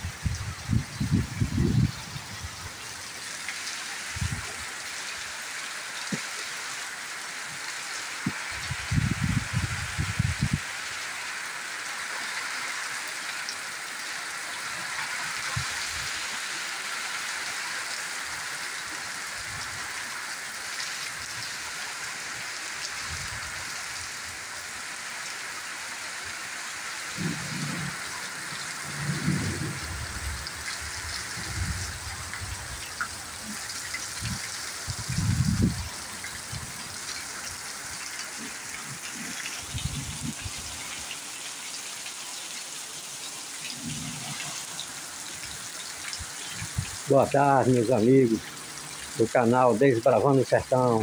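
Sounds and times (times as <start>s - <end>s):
heavy rain on dirt: 0.0s - 51.0s.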